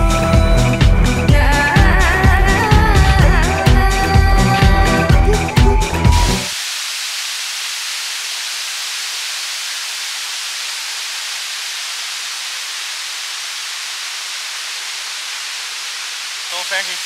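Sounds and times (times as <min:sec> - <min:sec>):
waterfall rushing: 0:02.0 - 0:17.0.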